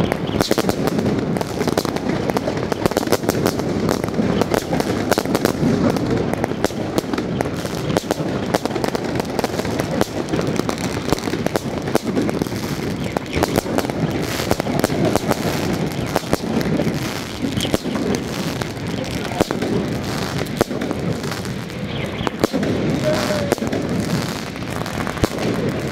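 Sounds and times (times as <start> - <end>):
fireworks cracking and banging: 0.0 - 25.9.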